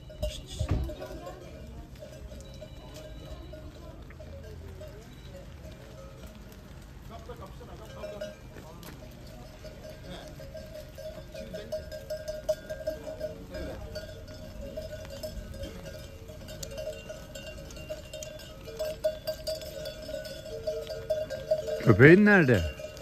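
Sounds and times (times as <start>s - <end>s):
hooves clicking on asphalt: 0.0s - 23.0s
sheep bells clanking: 0.0s - 23.0s.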